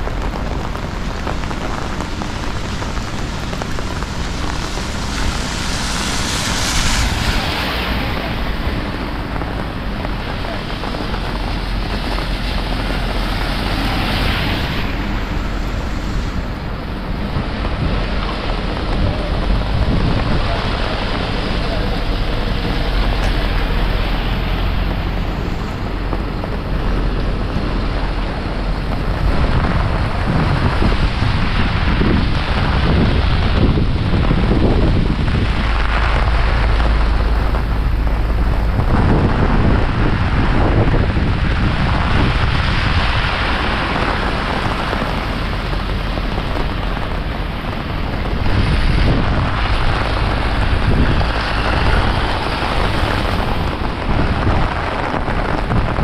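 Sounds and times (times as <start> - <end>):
heavy rain falling: 0.0 - 56.0
wind buffeting microphone: 0.0 - 56.0.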